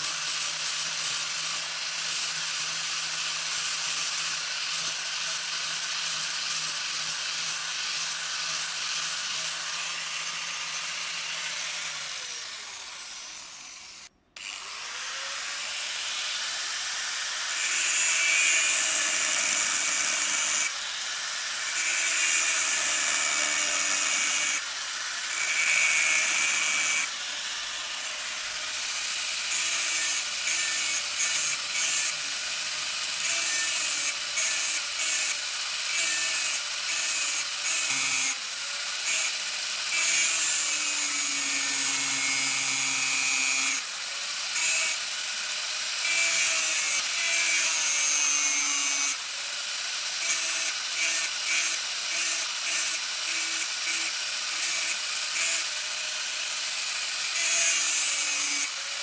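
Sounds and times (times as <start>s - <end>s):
electric power tool running: 4.3s - 59.0s.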